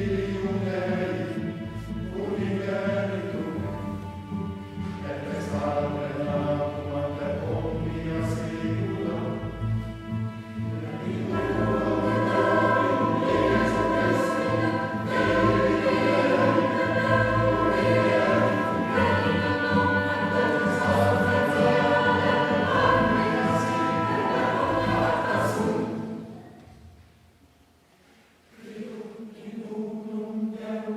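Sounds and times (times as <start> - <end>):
chamber orchestra: 0.0 - 26.6
mixed choir singing: 0.0 - 26.6, 28.5 - 30.9.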